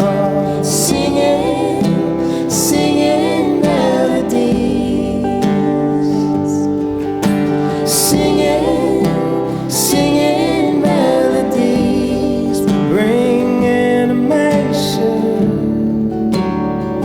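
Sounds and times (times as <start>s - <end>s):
acoustic guitar strumming: 0.0s - 17.0s
gentle acoustic song: 0.0s - 17.0s.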